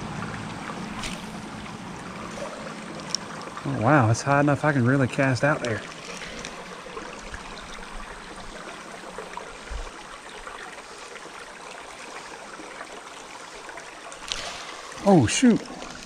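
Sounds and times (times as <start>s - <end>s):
creek water trickling: 0.0s - 16.0s.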